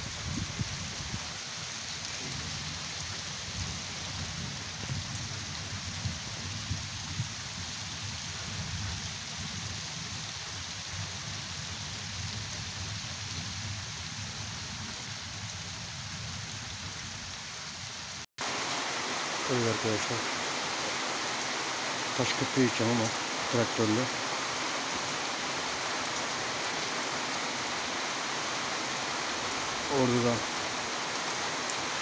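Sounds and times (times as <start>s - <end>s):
rain falling on foliage: 0.0s - 32.0s.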